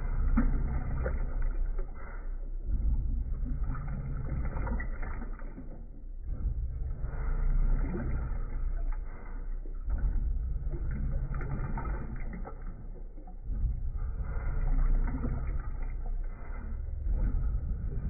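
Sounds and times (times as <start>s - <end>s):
washing machine rumbling: 0.0s - 18.0s.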